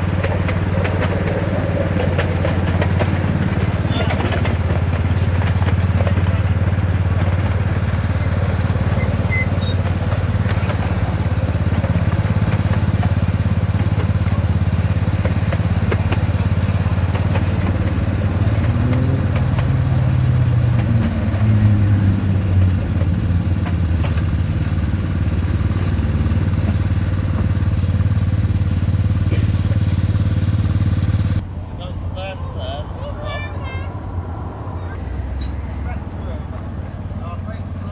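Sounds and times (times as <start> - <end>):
miniature locomotive engine running: 0.0 - 31.4.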